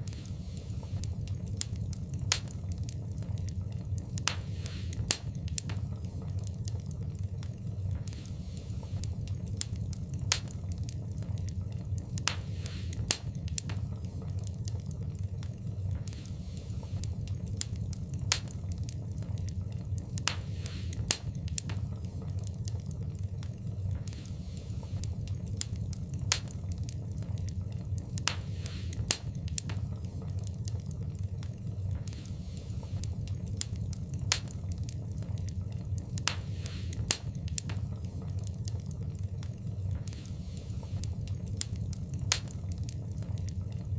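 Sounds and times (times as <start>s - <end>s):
fire hiss: 0.0s - 43.9s
steady low rumble: 0.0s - 43.9s
wood fire crackling in fireplace: 0.0s - 43.9s.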